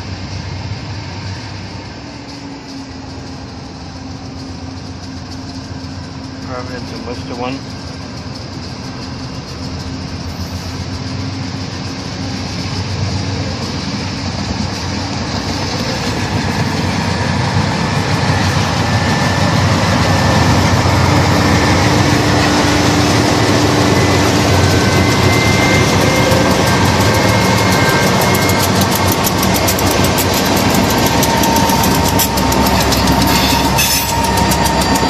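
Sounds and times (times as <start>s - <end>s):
diesel locomotive engine drone: 0.0s - 35.0s
train wheels rumbling on rails: 0.0s - 35.0s.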